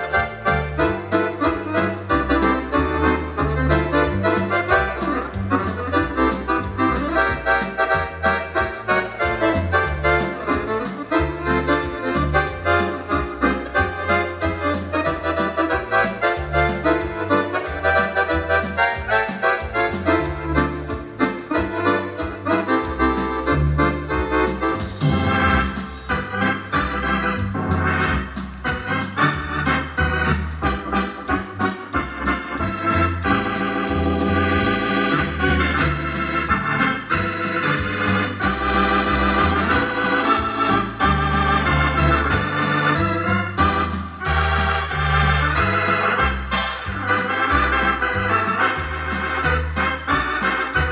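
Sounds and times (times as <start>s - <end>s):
electronic organ with steady beat: 0.0s - 50.9s.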